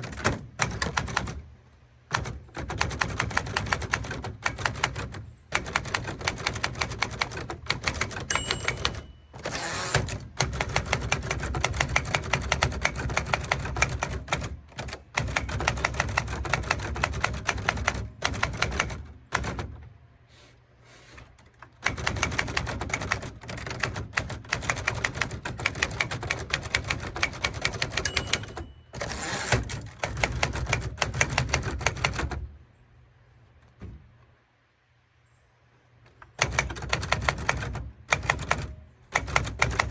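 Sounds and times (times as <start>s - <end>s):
typewriter keys clicking: 0.0s - 1.5s, 2.1s - 19.8s, 21.4s - 32.5s, 36.2s - 39.9s.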